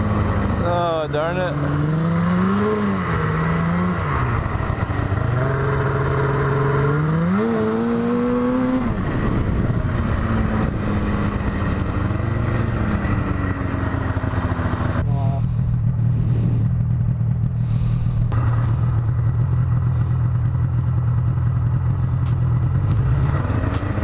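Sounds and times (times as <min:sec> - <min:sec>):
snowmobile engine running: 0:00.0 - 0:24.0.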